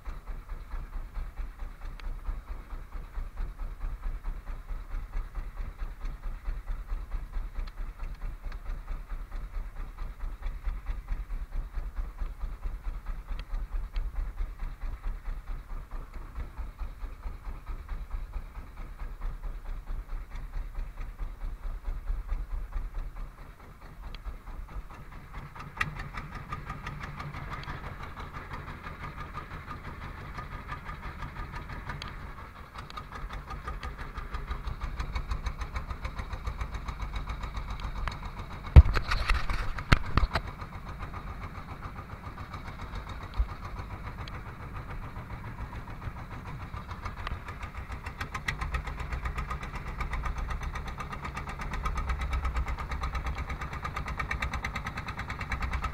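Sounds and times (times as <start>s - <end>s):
boat engine chugging: 0.0s - 55.9s
water: 0.0s - 55.9s
wind: 0.0s - 55.9s.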